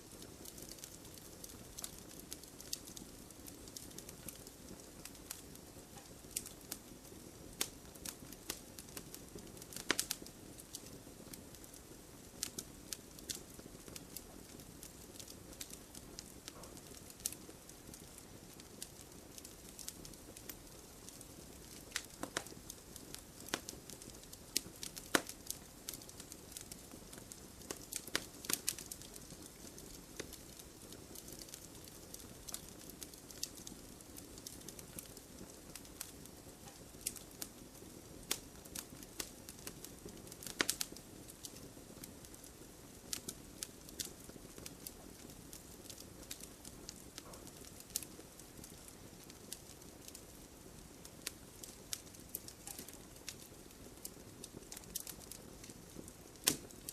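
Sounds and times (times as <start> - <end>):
low hiss of flames: 0.0 - 56.9
wood crackling and popping: 0.0 - 56.9.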